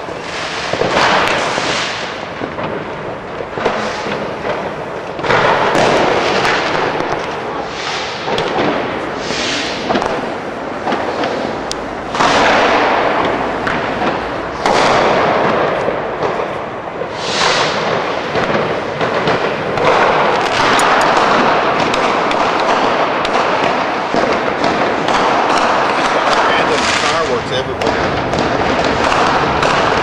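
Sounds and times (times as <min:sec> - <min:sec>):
hissing firework wash: 0:00.0 - 0:30.0
loud firework bursts: 0:00.0 - 0:30.0
rattle of small pops and bangs: 0:00.0 - 0:30.0.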